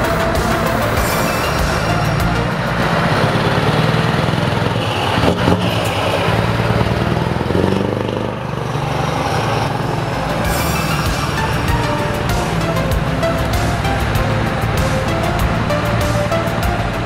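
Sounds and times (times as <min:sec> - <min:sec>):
truck diesel engine pulling away: 0:00.0 - 0:17.0.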